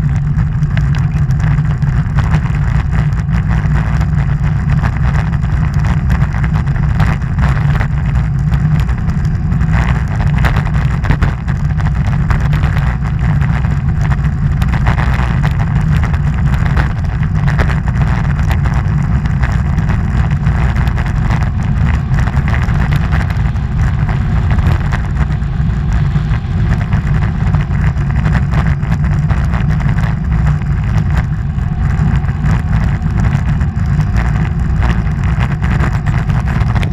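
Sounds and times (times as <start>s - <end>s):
wind rushing on microphone: 0.0s - 36.9s.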